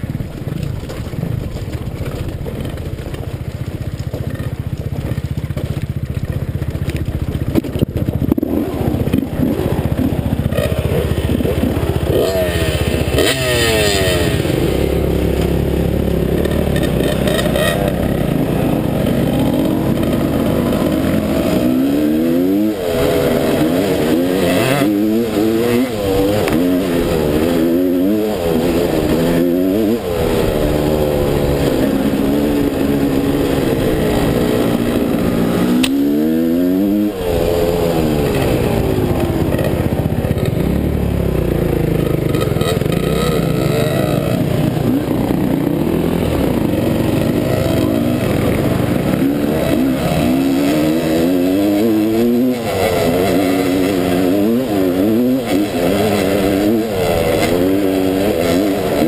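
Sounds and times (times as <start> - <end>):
other dirt bikes running: 0.0 - 59.0
dirt bike engine revving: 5.2 - 59.0.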